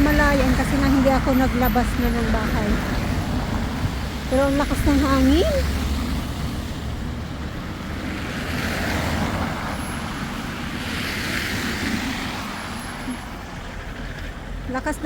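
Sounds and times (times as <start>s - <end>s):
gusting wind on microphone: 0.0s - 14.7s.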